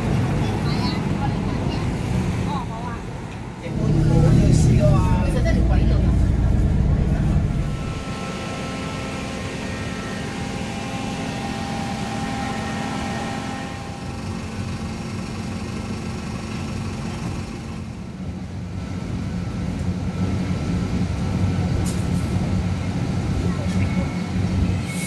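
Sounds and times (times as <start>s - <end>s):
light rail vehicle humming: 0.0s - 25.0s.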